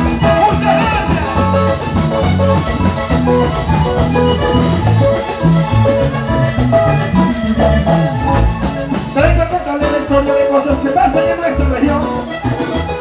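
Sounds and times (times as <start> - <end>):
accordion band playing: 0.0 - 13.0
button accordion melody: 0.0 - 13.0
congas and hand drum: 0.0 - 13.0.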